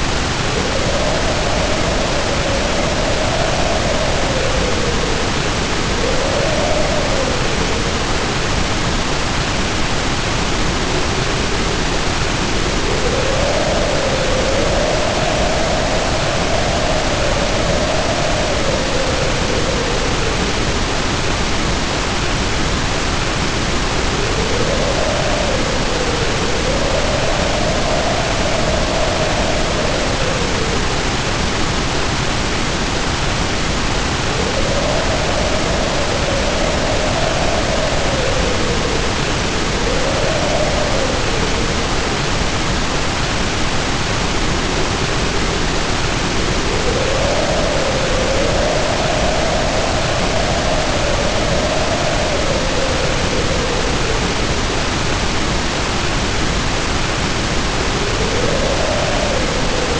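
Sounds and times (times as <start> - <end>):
heavy rain pouring: 0.0 - 59.9
howling wind: 0.0 - 59.9.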